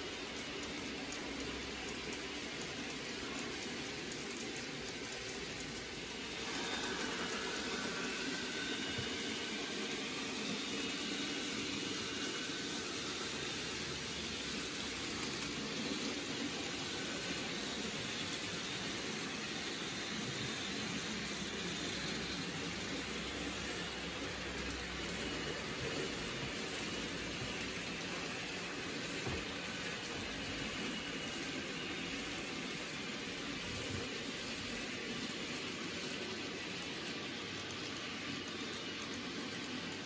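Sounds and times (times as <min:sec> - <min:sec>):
model train running on track: 0:00.0 - 0:40.0.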